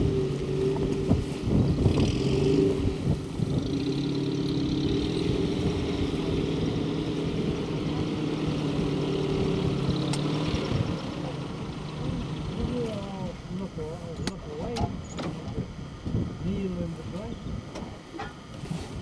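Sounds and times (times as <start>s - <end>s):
engine humming steadily: 0.0s - 19.0s.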